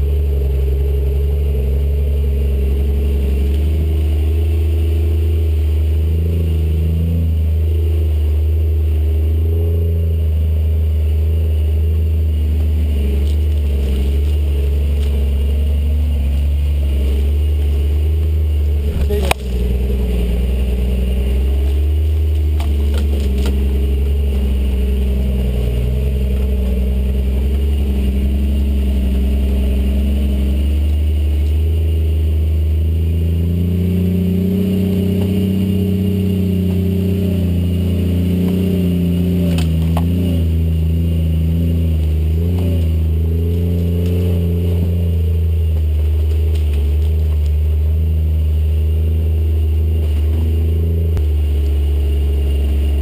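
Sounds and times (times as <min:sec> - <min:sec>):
vehicle engine under load: 0:00.0 - 0:53.0.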